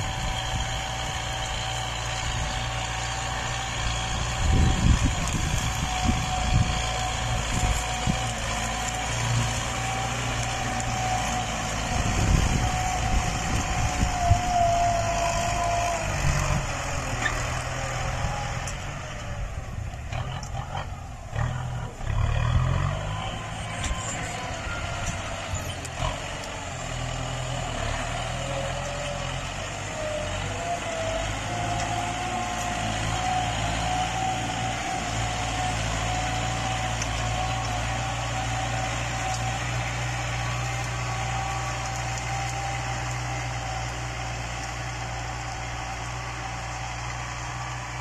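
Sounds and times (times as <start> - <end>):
tractor engine whining under load: 0.0 - 48.0.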